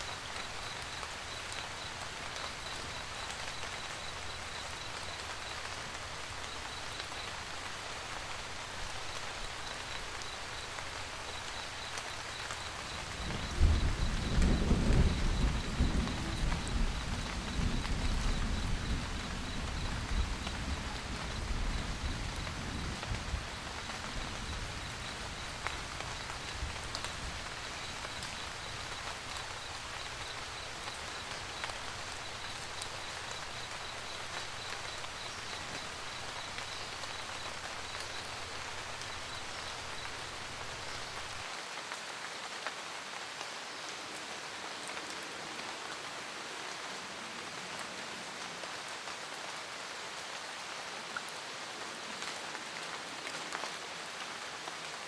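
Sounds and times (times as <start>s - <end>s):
rain pattering on a roof: 0.0s - 55.0s.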